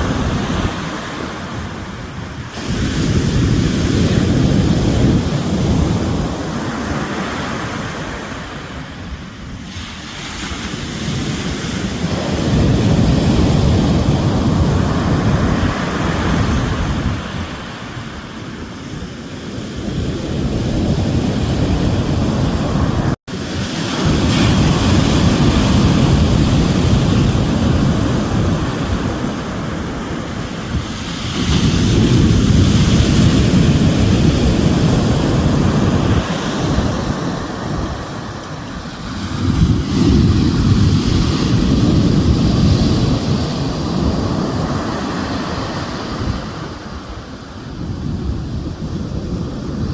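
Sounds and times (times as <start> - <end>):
ocean waves breaking: 0.0 - 49.9.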